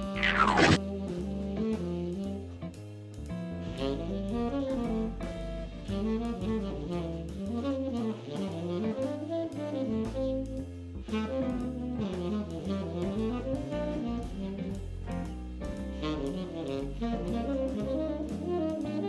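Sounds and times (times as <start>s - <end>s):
saxophone melody: 0.0s - 2.5s, 3.8s - 14.8s, 16.0s - 19.0s
drum kit beat: 0.0s - 2.8s, 3.7s - 19.0s.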